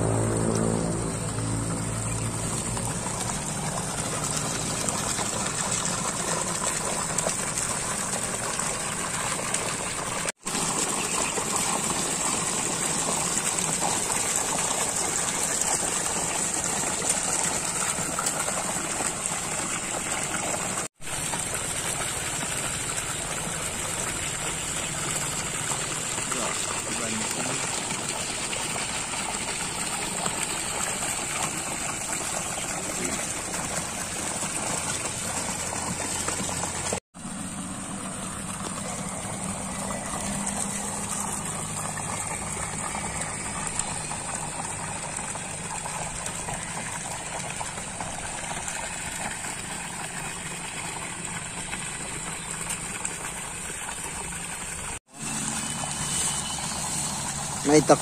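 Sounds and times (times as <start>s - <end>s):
low pump hum: 0.0s - 58.0s
water gushing into a drum: 0.0s - 58.0s.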